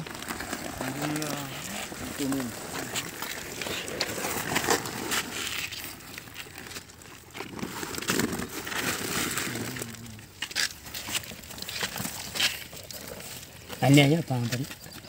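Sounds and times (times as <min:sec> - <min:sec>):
sacks rustling and crinkling: 0:00.0 - 0:15.0
sharp crackles: 0:00.0 - 0:15.0.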